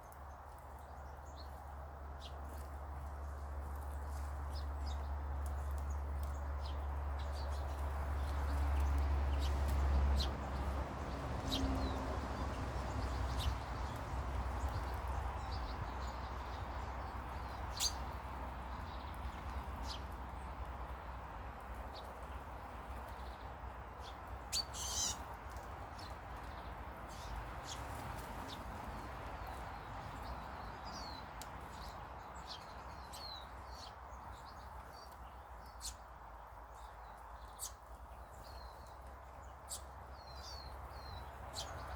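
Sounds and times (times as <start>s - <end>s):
birds chirping: 3.7s - 41.9s.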